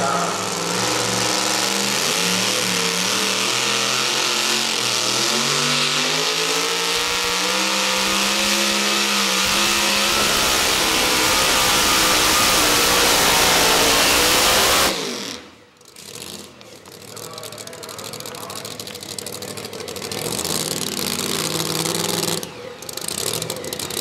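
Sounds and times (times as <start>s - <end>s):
supercharged truck engine at full throttle: 0.0s - 24.0s.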